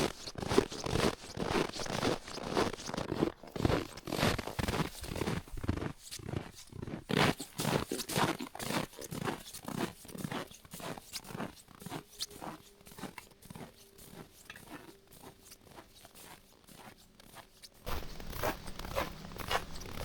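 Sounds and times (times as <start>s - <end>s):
snow crunching: 0.0s - 20.0s.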